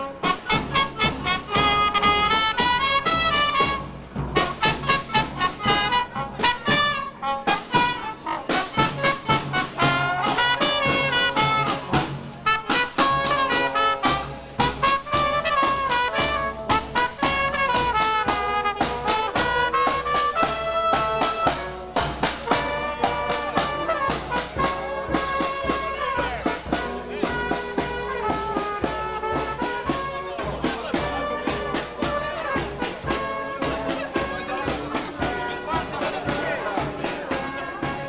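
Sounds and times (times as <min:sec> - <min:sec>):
marching band playing: 0:00.0 - 0:38.0
trumpets and trombones melody: 0:00.0 - 0:38.0.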